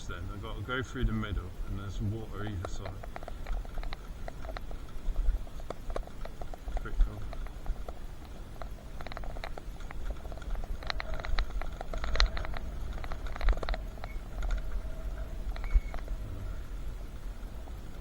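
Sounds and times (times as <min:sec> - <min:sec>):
bicycle tyres crunching: 0:00.0 - 0:18.0
bike rattling clicks: 0:00.0 - 0:18.0
wind rumble on microphone: 0:00.0 - 0:18.0.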